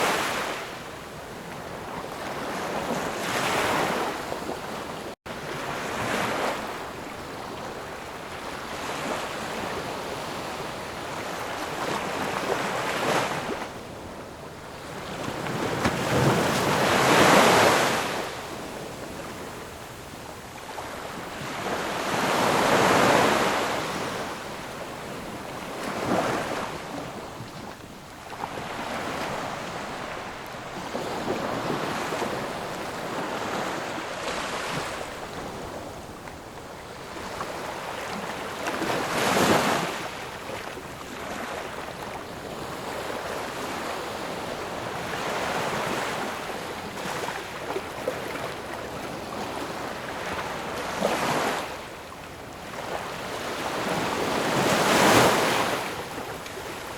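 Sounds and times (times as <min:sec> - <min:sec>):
ocean waves breaking on shore: 0:00.0 - 0:56.9.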